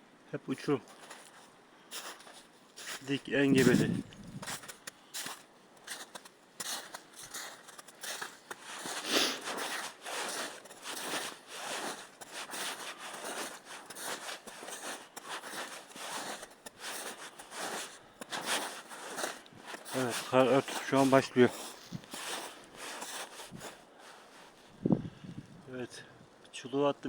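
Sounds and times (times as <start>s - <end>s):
footsteps crunching on forest floor: 0.8s - 24.8s.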